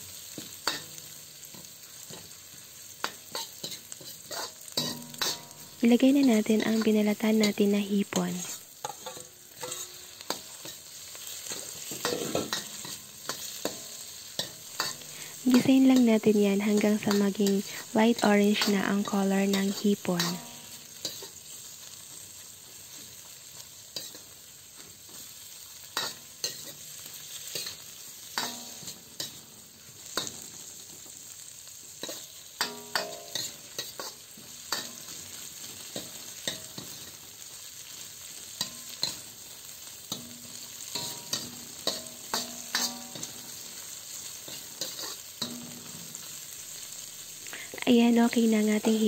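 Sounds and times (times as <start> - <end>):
food sizzling in hot oil: 0.0 - 49.0
metal spatula scraping a wok: 0.1 - 47.8.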